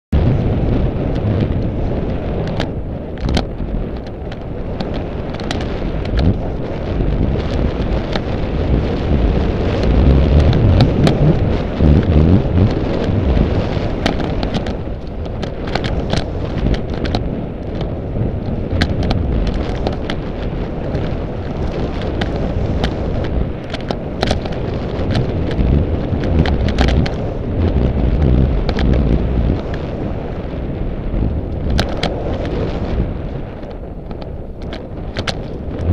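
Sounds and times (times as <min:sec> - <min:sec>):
wind buffeting microphone: 0:00.1 - 0:35.9
bike tyres on dirt: 0:00.2 - 0:35.9
bike clicks and rattles: 0:00.3 - 0:35.9.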